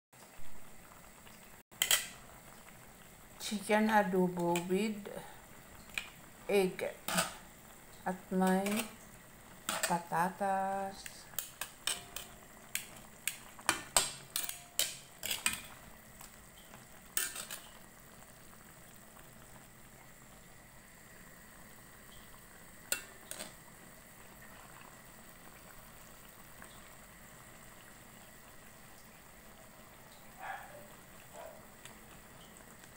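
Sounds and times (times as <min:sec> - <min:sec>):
sauce simmering: 0:00.2 - 0:32.9.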